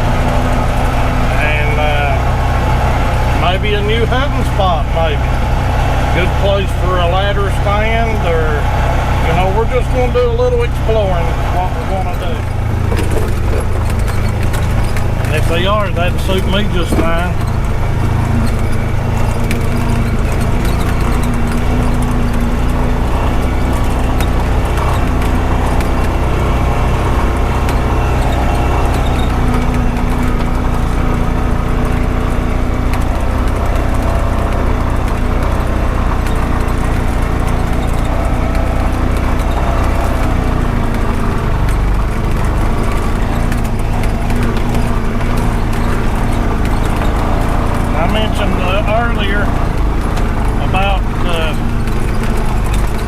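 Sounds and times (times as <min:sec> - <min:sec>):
vehicle engine running: 0:00.0 - 0:53.0
clicks and rattles: 0:09.3 - 0:53.0.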